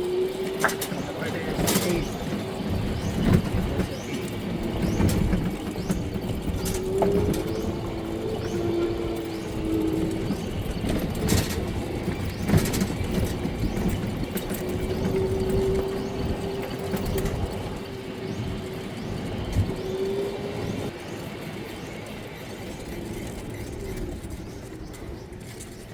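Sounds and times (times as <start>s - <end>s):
moving vehicle rumble: 0.0s - 25.9s.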